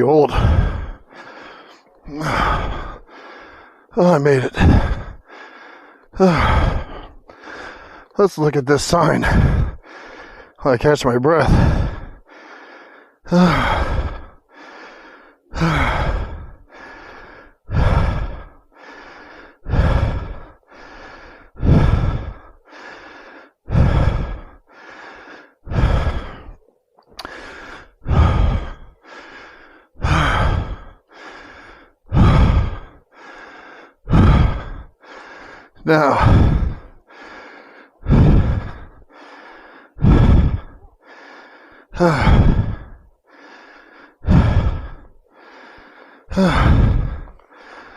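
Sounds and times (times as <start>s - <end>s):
man breathing hard: 0.0s - 47.9s.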